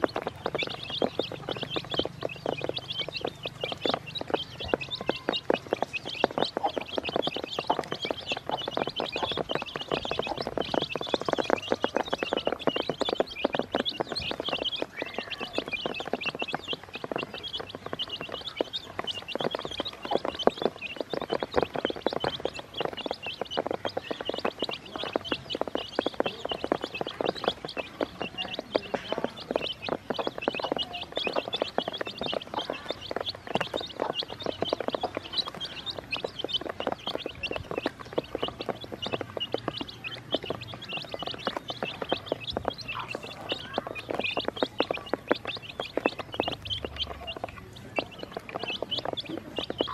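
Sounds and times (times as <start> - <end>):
baby chicks peeping: 0.0 - 49.9
beaks tapping on plastic basin: 0.0 - 49.9.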